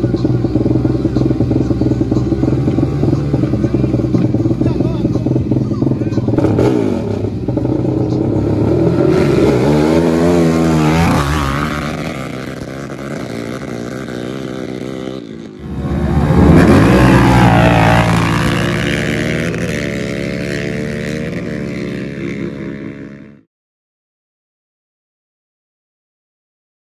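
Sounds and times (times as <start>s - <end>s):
quad engines revving and accelerating: 0.0s - 23.4s.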